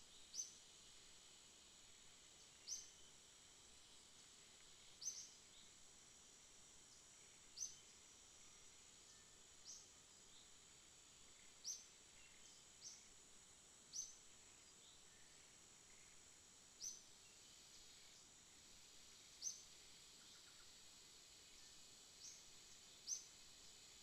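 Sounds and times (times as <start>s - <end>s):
high insect drone: 0.2s - 24.0s.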